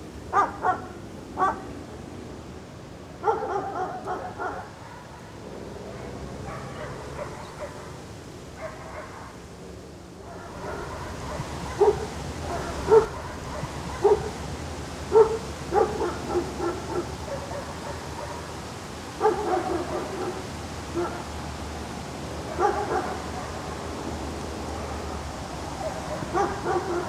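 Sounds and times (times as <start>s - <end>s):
steady background noise: 0.0s - 27.0s.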